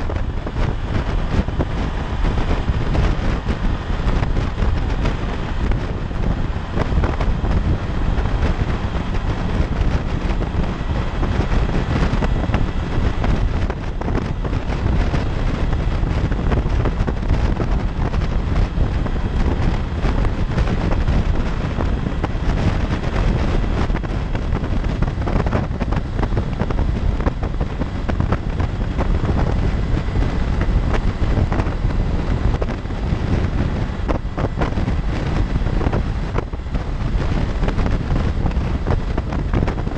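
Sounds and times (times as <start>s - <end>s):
road and vehicle noise: 0.0s - 39.9s
wind rushing over microphone: 0.0s - 39.9s.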